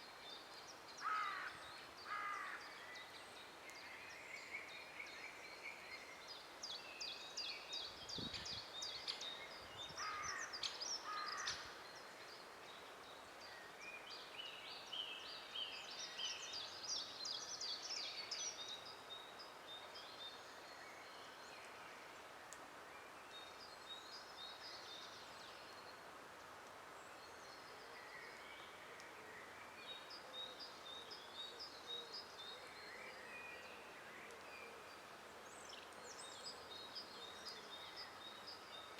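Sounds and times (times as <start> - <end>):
faint background hiss: 0.0 - 38.9
songbirds singing: 0.0 - 38.9.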